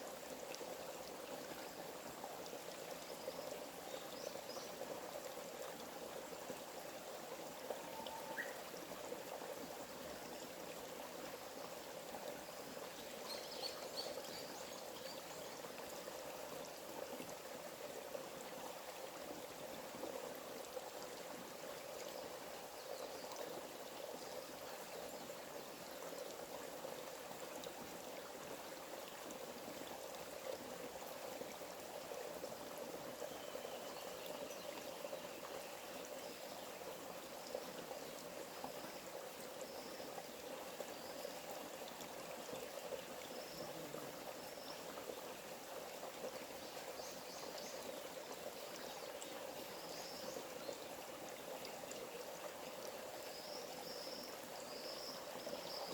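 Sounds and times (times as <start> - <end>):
stream trickling: 0.0 - 55.9.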